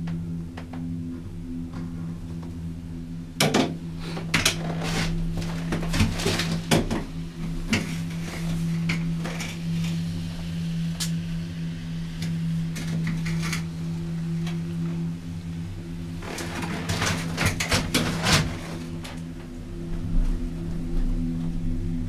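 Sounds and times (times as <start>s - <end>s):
cable car cabin hum: 0.0s - 22.0s.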